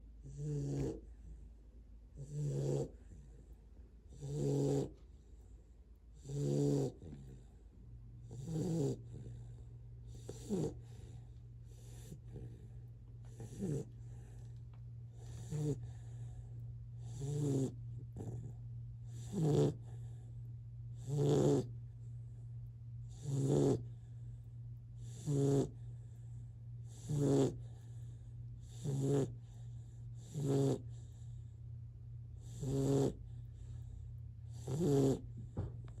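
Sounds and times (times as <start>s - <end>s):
puppy snoring: 0.0s - 36.0s
steady low hum: 0.0s - 36.0s.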